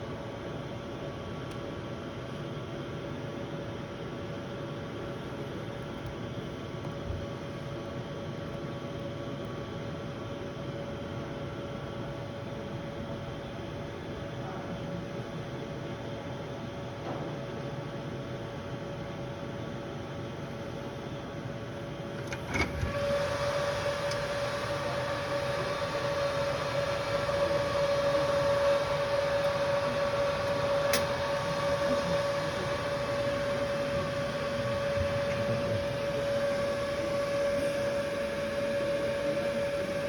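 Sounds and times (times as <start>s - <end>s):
robot electrical hum and whine: 0.0s - 40.0s.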